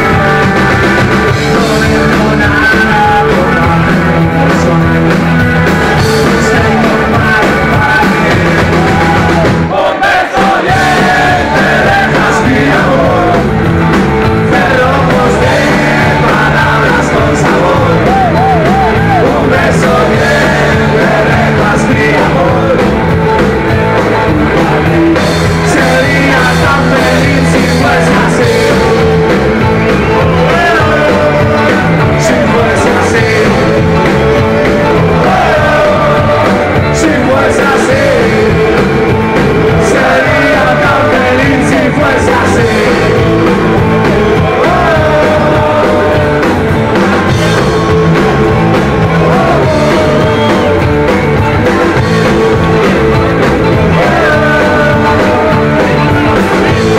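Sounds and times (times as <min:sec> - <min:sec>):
man singing into a microphone: 0:00.0 - 0:13.6, 0:14.3 - 0:23.2, 0:23.9 - 0:46.6, 0:47.3 - 0:51.0, 0:51.8 - 0:56.9
rock band playing live: 0:00.0 - 0:56.9.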